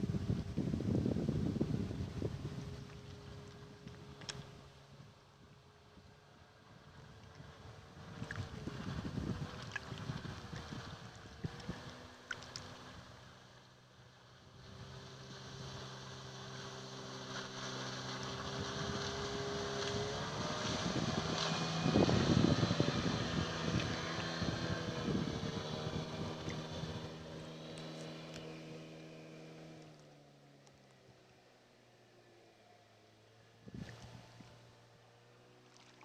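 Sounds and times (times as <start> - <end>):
outboard motor drone: 0.0 - 36.0.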